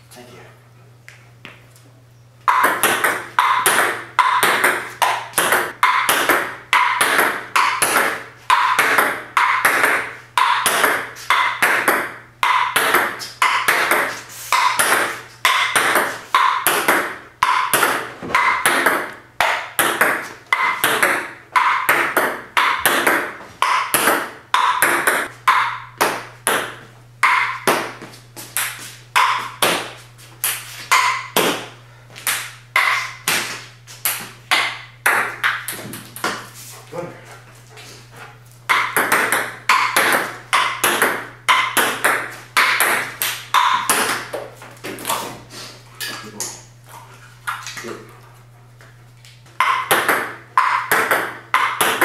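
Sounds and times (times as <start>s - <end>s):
table tennis ball strikes: 2.4s - 36.5s, 38.7s - 45.0s, 49.6s - 52.0s.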